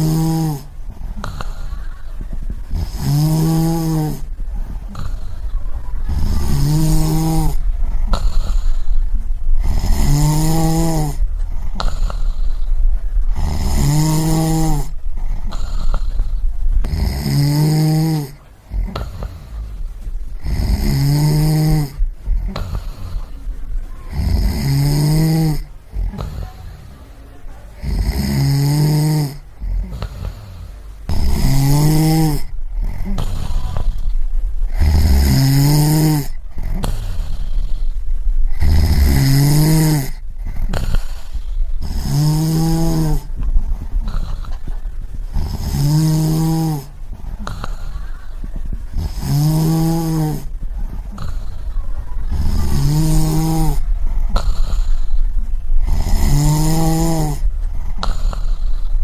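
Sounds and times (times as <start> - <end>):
person snoring: 0.0 - 2.0, 2.7 - 9.0, 9.6 - 12.7, 13.3 - 19.8, 20.4 - 23.4, 24.1 - 27.0, 27.8 - 44.7, 45.3 - 48.3, 48.9 - 59.0.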